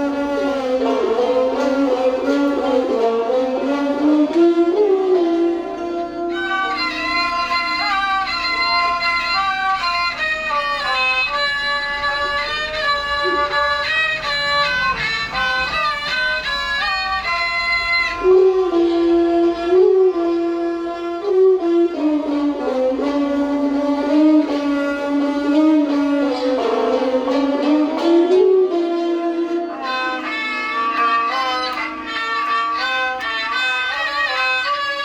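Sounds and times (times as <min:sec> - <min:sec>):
bowed fiddle melody: 0:00.0 - 0:35.0.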